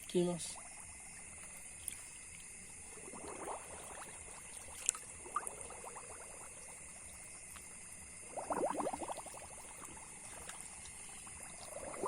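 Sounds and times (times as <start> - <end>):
water sloshing and gurgling: 0.0 - 12.0.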